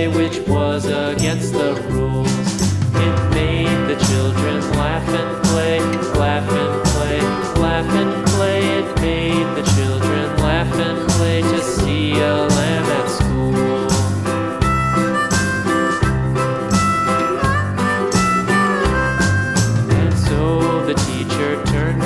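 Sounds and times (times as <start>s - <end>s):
country guitar background music: 0.0s - 22.0s.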